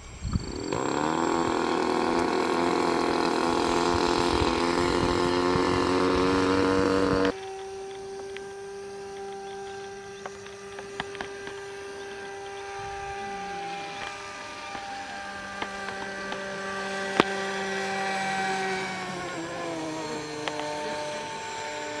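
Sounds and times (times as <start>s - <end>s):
model airplane motor whining: 0.0s - 22.0s.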